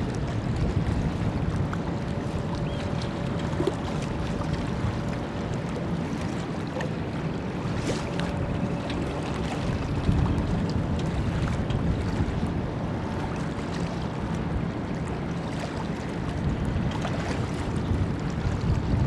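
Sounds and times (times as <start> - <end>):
wind buffeting microphone: 0.0 - 6.2, 7.2 - 13.7, 16.2 - 19.0
ship rumble: 0.0 - 19.0.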